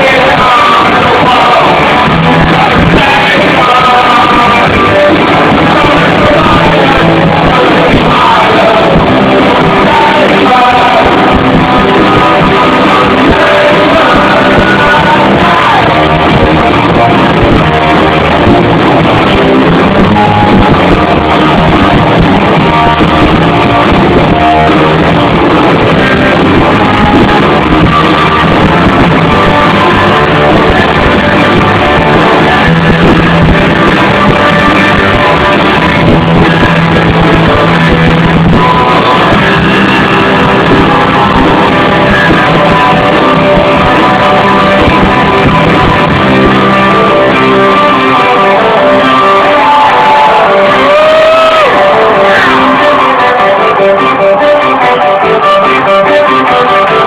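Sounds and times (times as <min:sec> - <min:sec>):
drums: 0:00.0 - 0:57.0
electric guitar: 0:00.0 - 0:57.0
person singing: 0:00.0 - 0:57.0.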